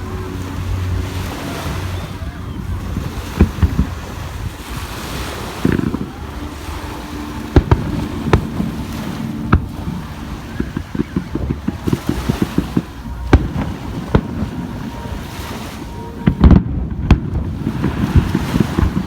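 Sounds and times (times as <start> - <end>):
fireworks crackling and booming: 0.0 - 19.0.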